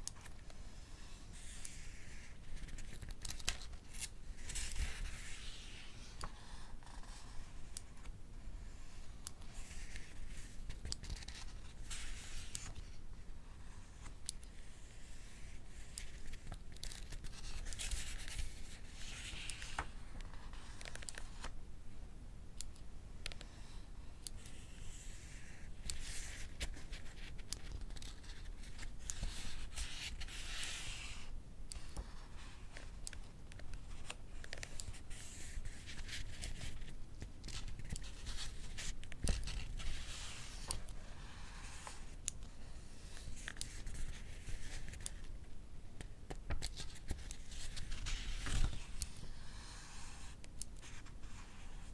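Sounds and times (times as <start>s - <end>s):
book pages turning: 0.0s - 8.1s, 8.8s - 13.0s, 13.6s - 21.6s, 24.3s - 45.4s, 46.3s - 51.9s.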